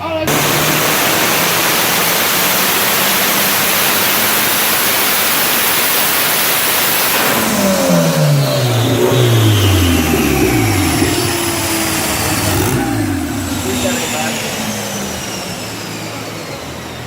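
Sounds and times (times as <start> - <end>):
car engine at full throttle: 0.0 - 17.0
dyno rollers winding down: 0.0 - 17.0.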